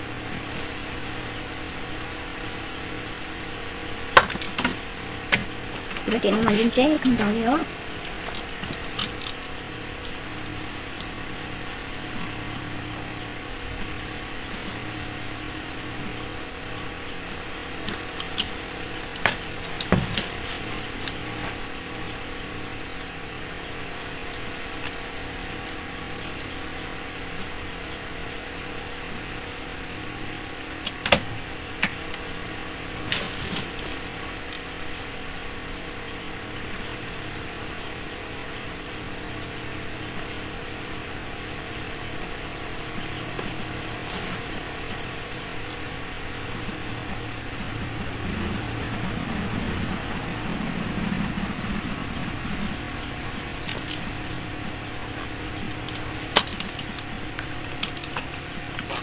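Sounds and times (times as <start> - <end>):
faint high whine: 0.0 - 59.0
mechanical hum: 0.0 - 59.0.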